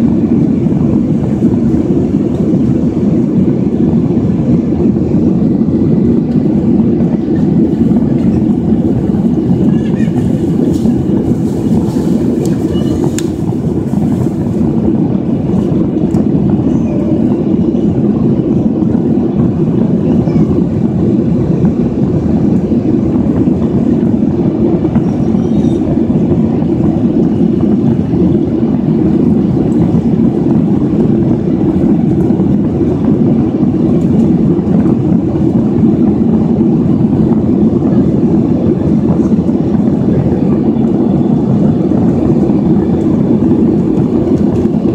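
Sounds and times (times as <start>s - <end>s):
air rushing: 0.0s - 44.9s
jet engines rumbling: 0.0s - 44.9s.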